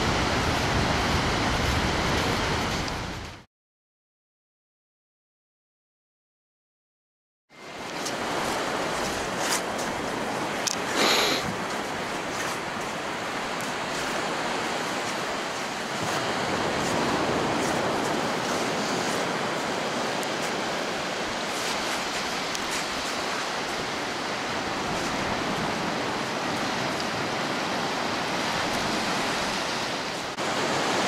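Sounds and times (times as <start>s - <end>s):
waves breaking on beach: 0.0s - 3.4s, 7.6s - 31.0s.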